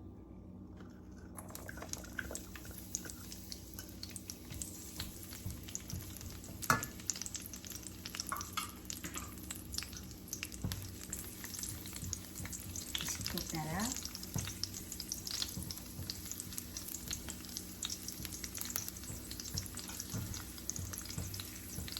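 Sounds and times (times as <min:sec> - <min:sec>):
garlic sizzling in oil: 0:01.6 - 0:21.9
utensil clacking on pan: 0:03.8 - 0:21.9.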